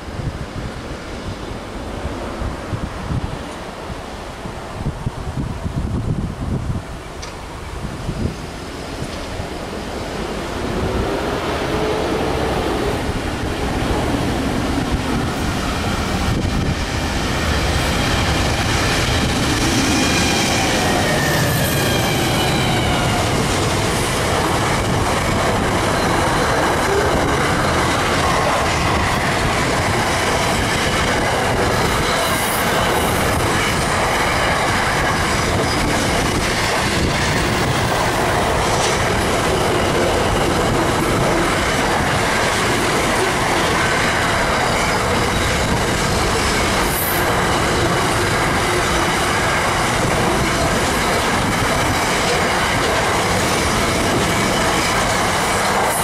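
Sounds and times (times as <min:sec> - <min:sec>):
train wheels rumbling on rails: 0:00.0 - 0:56.0
clickety-clack over rail joints: 0:08.9 - 0:09.8, 0:11.6 - 0:56.0.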